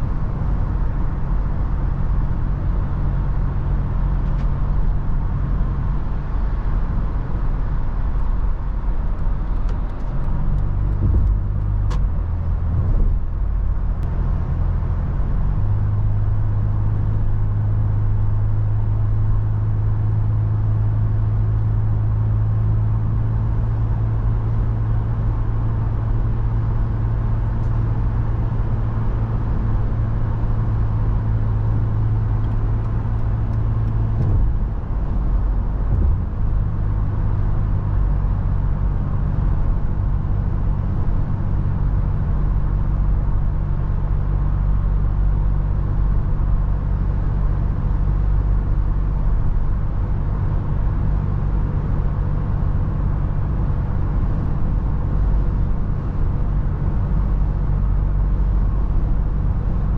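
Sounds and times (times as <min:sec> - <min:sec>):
road and wind noise: 0:00.0 - 0:59.9
vehicle engine drone: 0:00.0 - 0:59.9.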